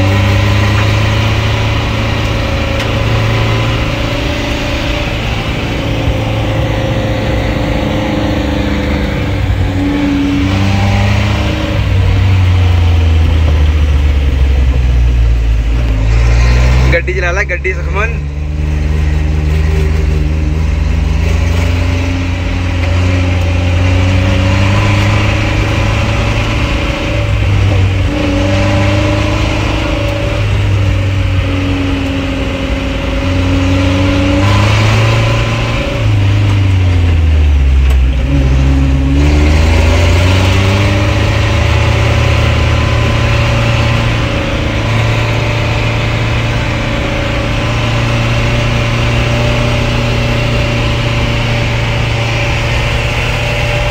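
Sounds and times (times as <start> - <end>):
off-road vehicle engine: 0.0 - 53.9
tyre and road noise: 0.0 - 53.9.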